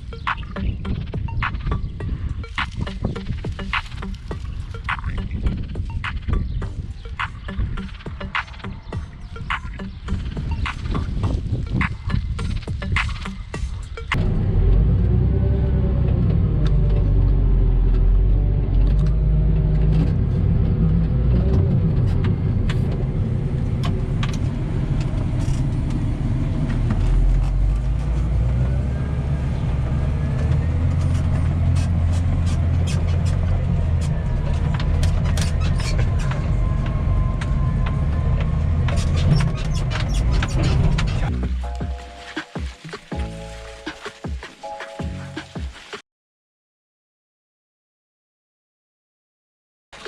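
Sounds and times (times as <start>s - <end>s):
tractor engine rumbling: 0.0s - 45.8s.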